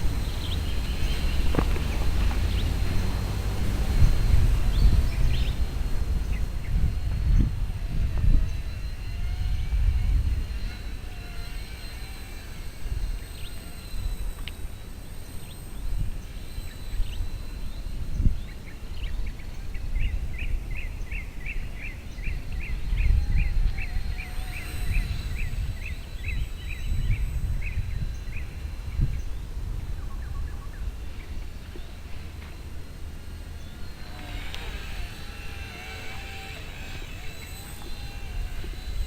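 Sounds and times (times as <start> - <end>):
bird chirping: 0.0 - 39.0
wind buffeting microphone: 0.0 - 39.0.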